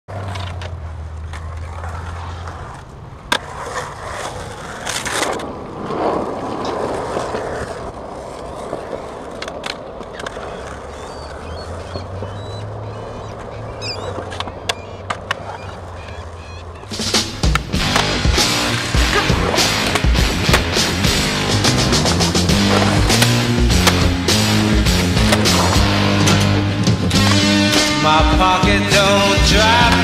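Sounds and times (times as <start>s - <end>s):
skateboard clacking on concrete: 0.1s - 27.9s
skateboard wheels rolling on concrete: 0.1s - 30.0s.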